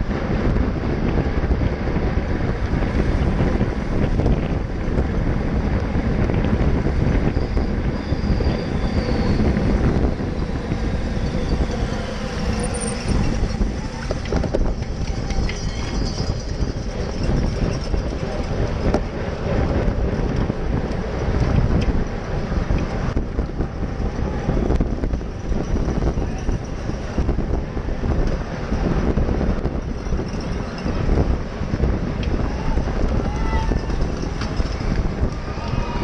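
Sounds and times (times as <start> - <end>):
tyre and road rumble: 0.0 - 36.0
wind rushing over microphone: 0.0 - 36.0.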